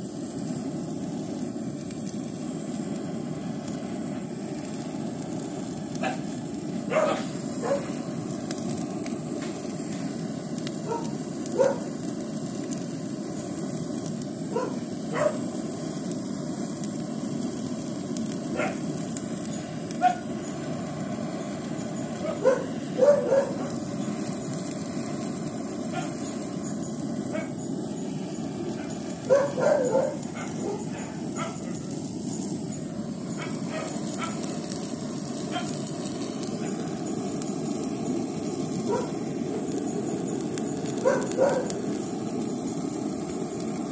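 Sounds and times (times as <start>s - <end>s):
blow torch hissing: 0.0s - 43.9s.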